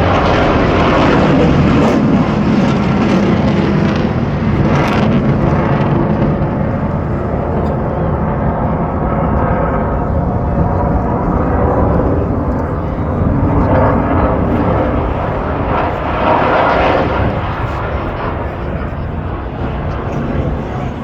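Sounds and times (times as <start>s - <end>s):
aircraft engine rumble overhead: 0.0s - 21.0s.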